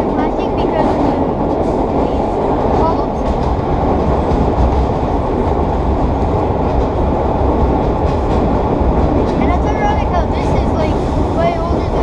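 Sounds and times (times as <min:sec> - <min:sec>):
subway train wheels rumbling on rail: 0:00.0 - 0:12.0.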